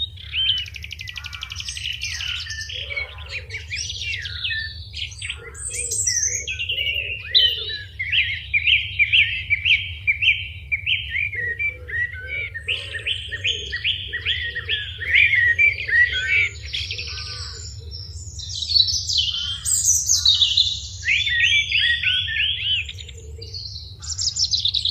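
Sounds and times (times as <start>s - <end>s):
songbird chirping: 0.0s - 24.9s.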